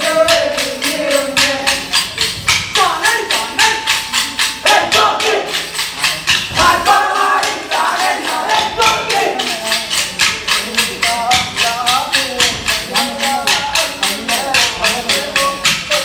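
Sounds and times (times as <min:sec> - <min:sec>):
person singing: 0:00.0 - 0:16.0
wooden sticks clacking: 0:00.0 - 0:16.0.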